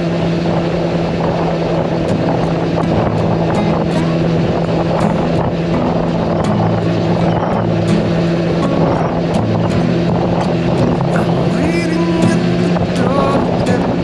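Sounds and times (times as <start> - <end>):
two-stroke motorcycle engine running: 0.0 - 14.0.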